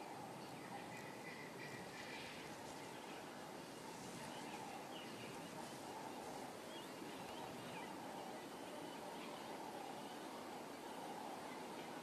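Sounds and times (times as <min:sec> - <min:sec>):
distant bird chirps: 0:00.0 - 0:12.0
outdoor bush ambience: 0:00.0 - 0:12.0.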